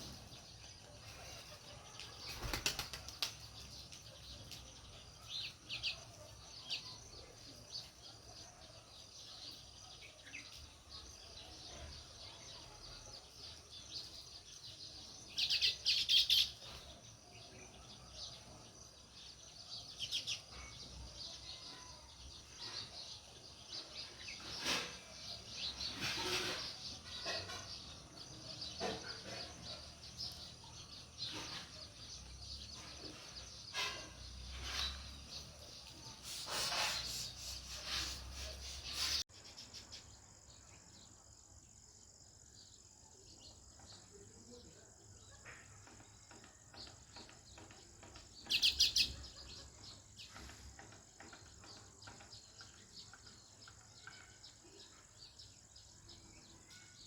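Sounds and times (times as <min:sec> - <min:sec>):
sparrows chirping: 0:00.0 - 0:57.0.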